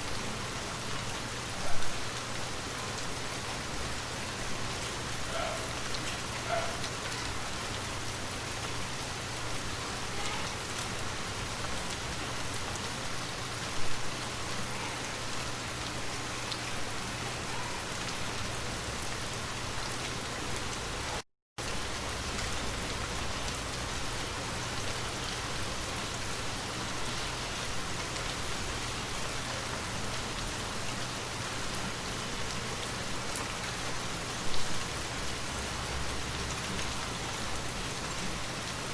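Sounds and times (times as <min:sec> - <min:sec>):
rain falling on surfaces: 0:00.0 - 0:38.9.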